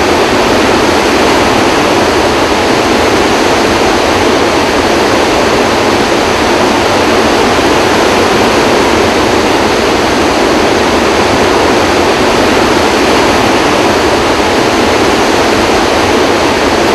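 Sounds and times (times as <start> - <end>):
floodwater rushing through spillway: 0.0 - 16.9.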